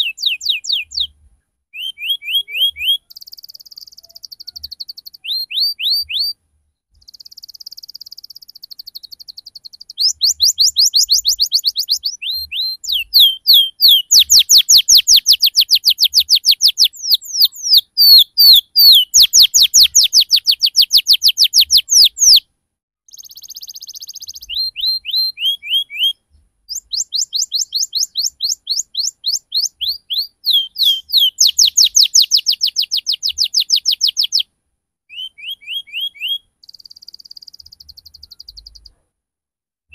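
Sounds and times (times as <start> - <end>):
canary singing trills: 0.0 - 22.4, 23.1 - 34.5, 35.1 - 39.0.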